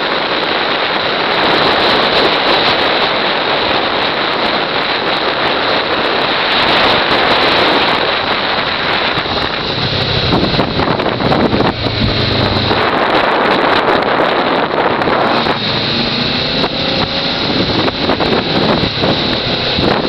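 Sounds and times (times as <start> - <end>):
motorcycle engine hum: 0.0 - 20.0
wind rushing over microphone: 0.0 - 20.0.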